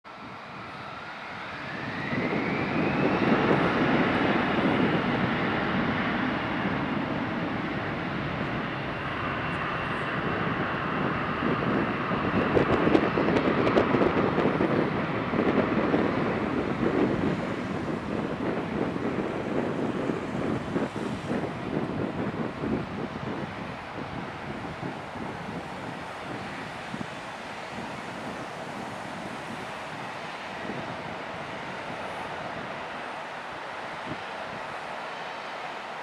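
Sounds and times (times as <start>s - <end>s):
loud steady jet engine noise: 0.0s - 36.0s
jet engines spooling up with whine: 0.1s - 36.0s.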